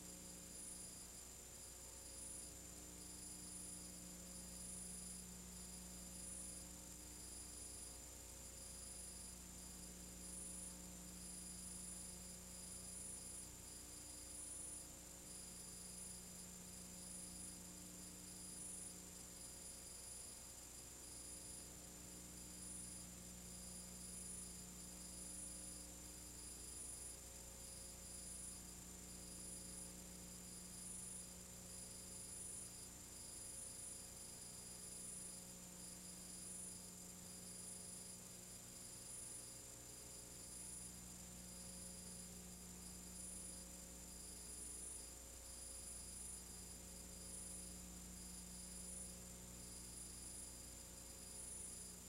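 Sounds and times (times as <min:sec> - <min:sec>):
faint electrical hum: 0:00.0 - 0:52.0.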